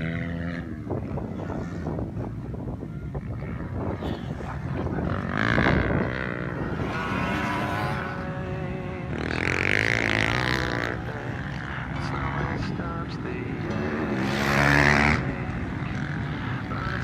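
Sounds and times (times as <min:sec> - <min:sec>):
motocross motorcycle engines revving: 0:00.0 - 0:17.0.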